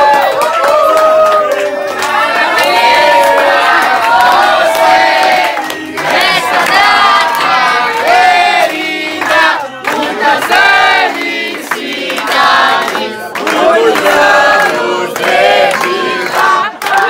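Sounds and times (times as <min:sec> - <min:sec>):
crowd singing loudly: 0:00.0 - 0:17.0
hand clapping: 0:00.0 - 0:17.0.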